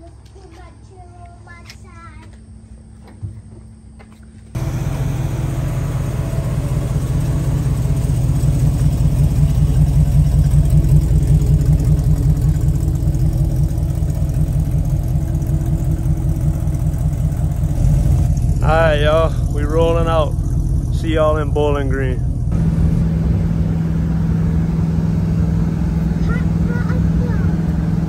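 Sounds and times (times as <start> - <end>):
car engine pulling away: 4.5 - 28.0.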